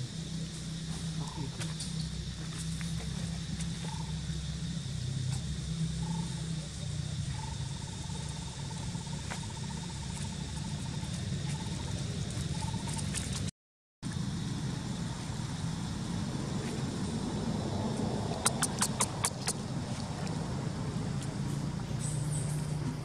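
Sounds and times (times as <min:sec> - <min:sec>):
high-pitched insect drone: 0:00.0 - 0:13.5, 0:14.1 - 0:22.8
short insect chirps: 0:00.0 - 0:13.5, 0:14.1 - 0:23.0
constant low hum: 0:00.0 - 0:23.0
rapid insect trill: 0:00.0 - 0:23.0.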